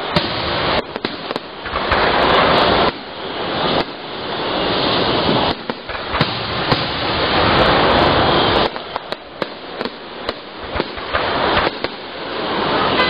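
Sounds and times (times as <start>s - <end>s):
fireworks bursting: 0.0s - 13.0s
loud rushing noise: 0.0s - 13.0s.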